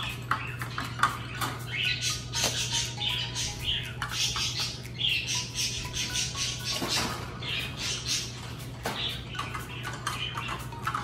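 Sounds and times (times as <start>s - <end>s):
parrots chirping and squawking: 0.0s - 11.0s.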